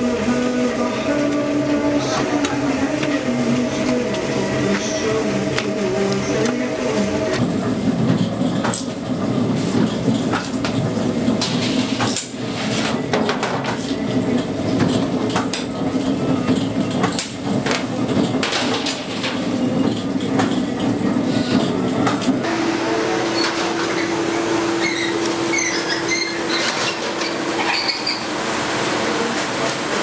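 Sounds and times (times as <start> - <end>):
dough moulding machine running: 0.0 - 30.0.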